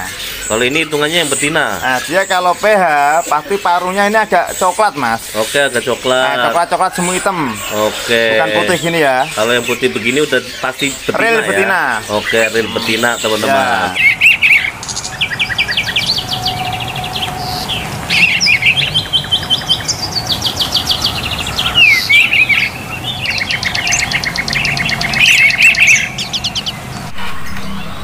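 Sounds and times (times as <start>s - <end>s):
songbird trilling: 0.0s - 28.0s.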